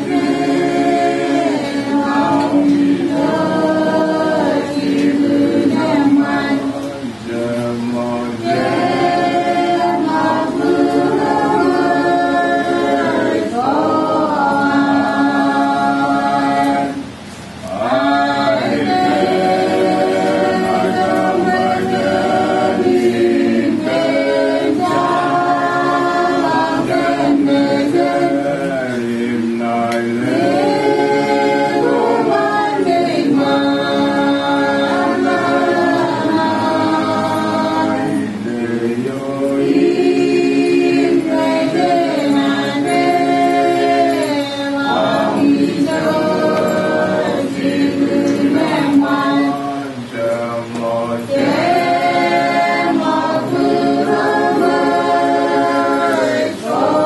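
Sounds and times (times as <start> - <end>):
group singing a hymn: 0.0 - 57.0.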